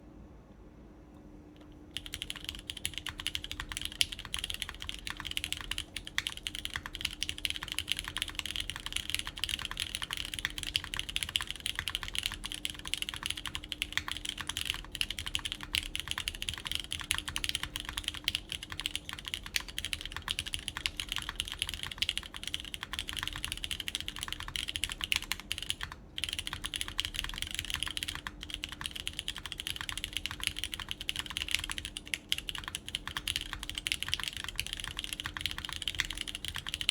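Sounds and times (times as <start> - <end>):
typing on mechanical keyboard: 1.6 - 36.9.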